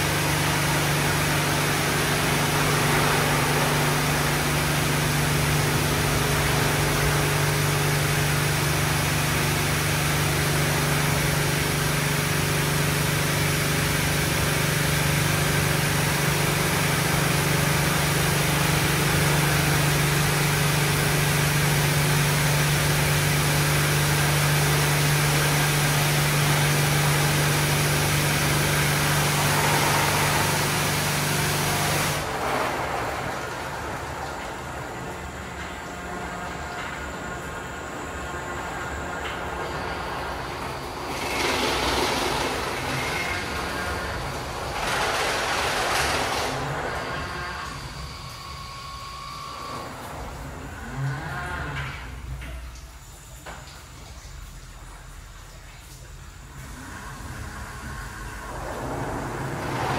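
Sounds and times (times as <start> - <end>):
car wash machine hum: 0.0 - 59.9.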